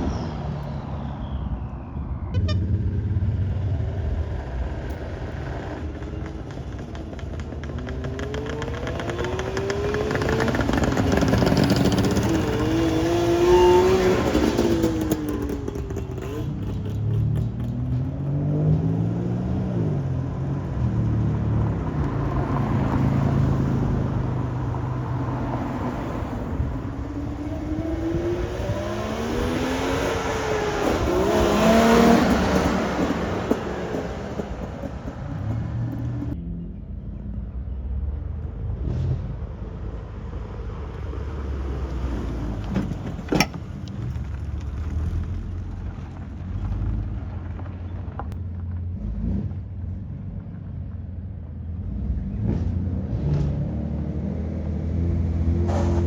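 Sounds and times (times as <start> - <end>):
cars driving past: 0.0 - 56.0.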